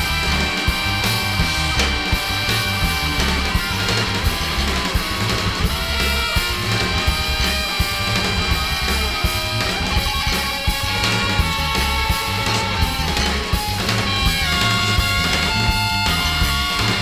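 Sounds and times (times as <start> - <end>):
free jazz guitars bass and drums: 0.0 - 17.0.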